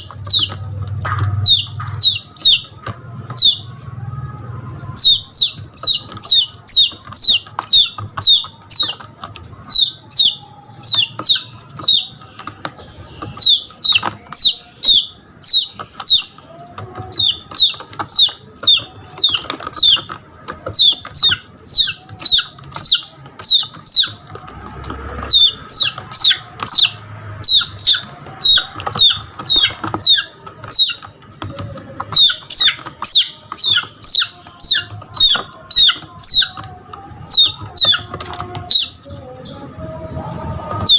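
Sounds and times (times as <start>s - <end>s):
chick peeping: 0.0s - 40.9s.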